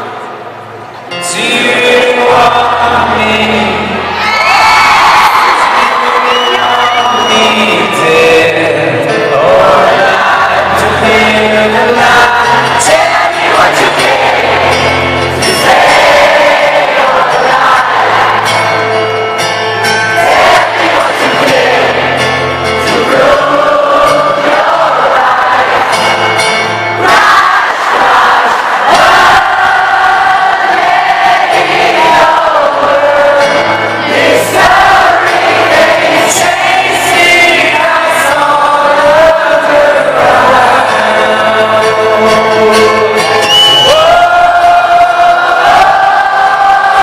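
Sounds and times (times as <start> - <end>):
acoustic instrumental accompaniment: 0.0 - 47.0
crowd singing along: 0.0 - 47.0
person singing melody: 5.5 - 47.0.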